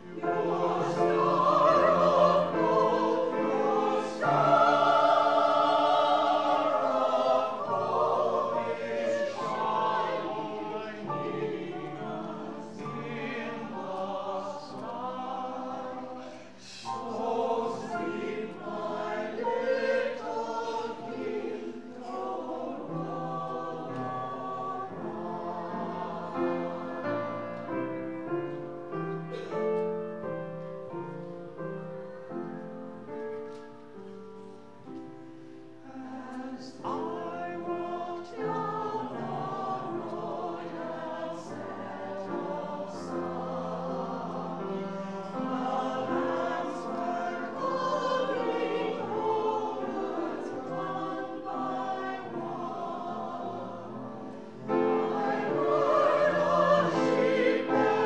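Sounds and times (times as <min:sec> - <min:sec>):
mixed choir singing: 0:00.0 - 0:30.0, 0:35.4 - 0:58.0
grand piano: 0:00.0 - 0:58.0.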